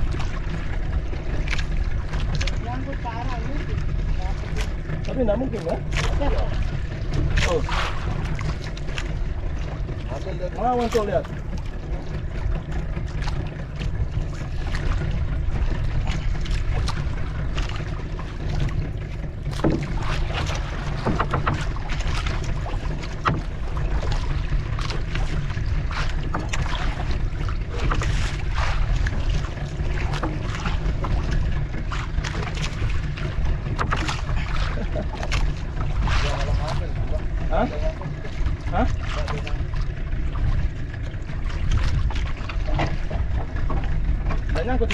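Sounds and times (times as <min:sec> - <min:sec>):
fishing boat engine rumble: 0:00.0 - 0:44.9.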